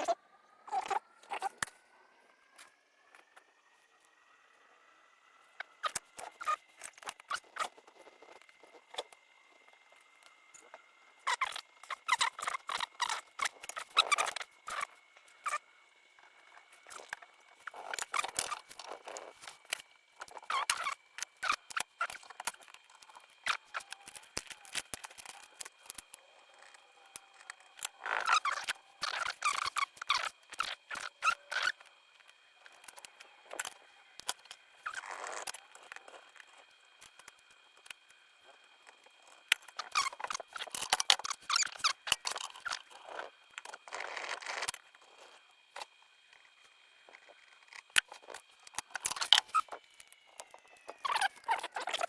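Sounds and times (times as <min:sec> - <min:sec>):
small tools clicking: 0:05.8 - 0:09.2, 0:11.2 - 0:15.6, 0:16.6 - 0:38.2, 0:38.8 - 0:52.0.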